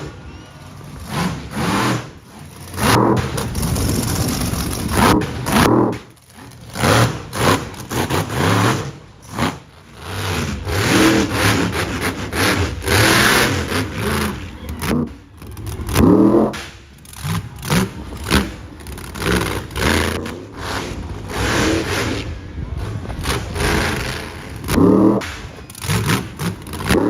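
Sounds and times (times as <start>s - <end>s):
monster truck engines revving: 0.0s - 27.0s.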